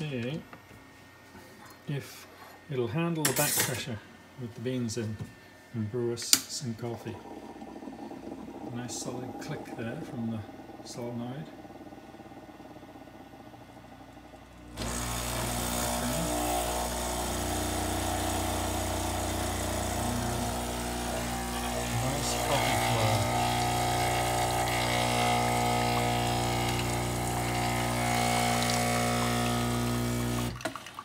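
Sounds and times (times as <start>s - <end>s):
espresso machine pump humming: 5.9s - 30.9s.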